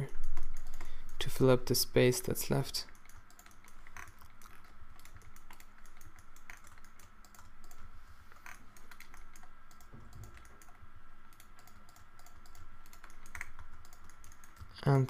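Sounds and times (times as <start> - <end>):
computer keyboard keystrokes: 0.2 - 1.4, 2.9 - 7.8, 8.4 - 15.0.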